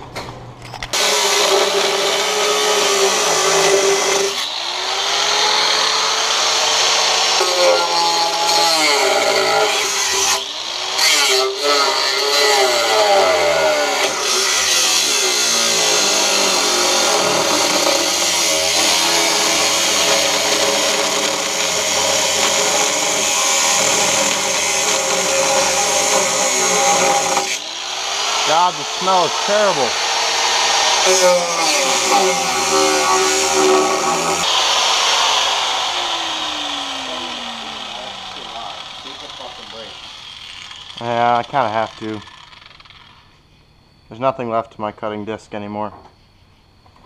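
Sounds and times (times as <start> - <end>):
angle grinder cutting metal: 0.9 - 43.0.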